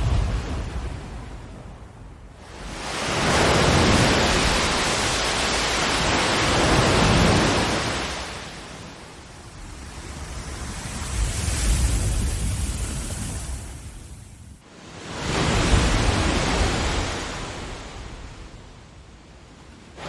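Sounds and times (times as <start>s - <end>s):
ocean waves on shore: 0.0s - 20.0s.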